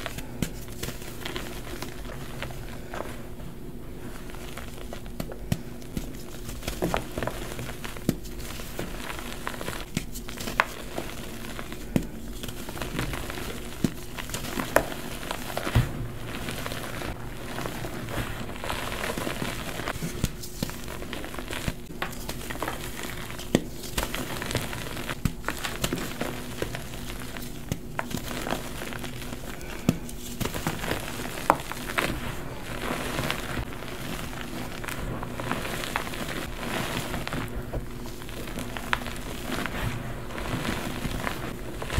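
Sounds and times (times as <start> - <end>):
chalk crumbling crackle: 0.0 - 41.9
chalk chunks crunching: 4.0 - 41.9.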